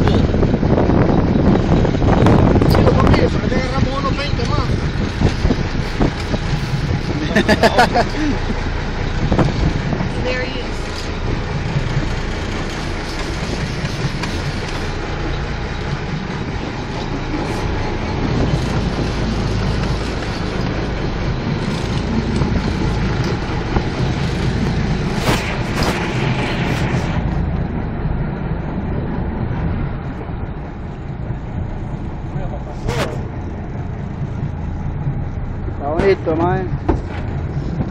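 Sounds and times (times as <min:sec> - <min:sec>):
boat engine running: 0:00.0 - 0:37.9
water noise: 0:00.0 - 0:37.9
wind: 0:00.0 - 0:37.9.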